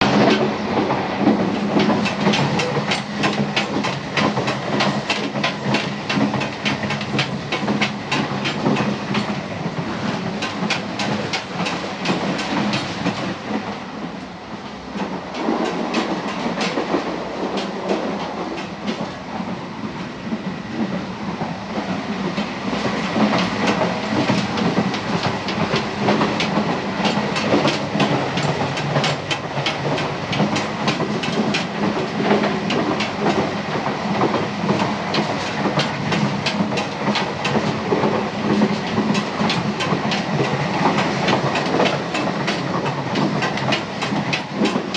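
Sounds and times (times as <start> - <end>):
train rumble and hum: 0.0 - 44.9
train wheels clickety-clack: 0.0 - 44.9.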